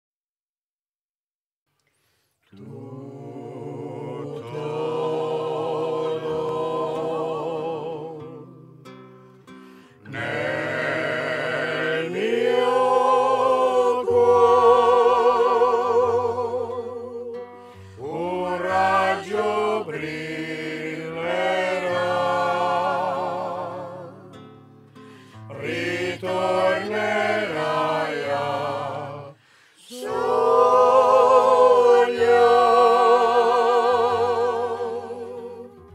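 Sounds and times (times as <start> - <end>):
group singing in harmony: 2.5 - 9.0, 10.0 - 24.5, 25.2 - 35.9.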